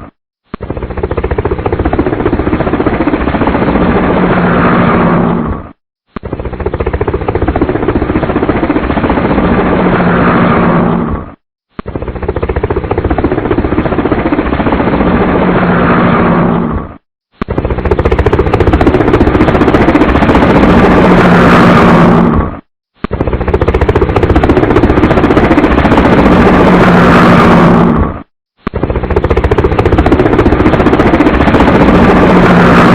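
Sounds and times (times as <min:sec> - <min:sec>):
helicopter rotor chopping: 0:00.6 - 0:11.3, 0:11.9 - 0:32.9.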